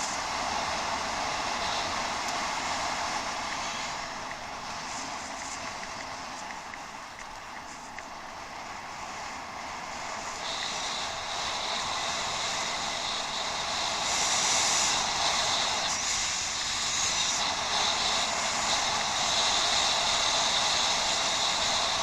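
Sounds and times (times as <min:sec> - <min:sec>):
bicycle tyre noise: 0:00.0 - 0:22.0
rushing wind: 0:00.0 - 0:22.0.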